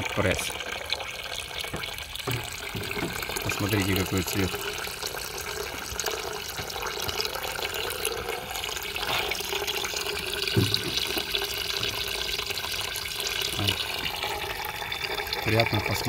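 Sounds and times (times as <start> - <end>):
liquid streaming into basin: 0.0 - 16.0.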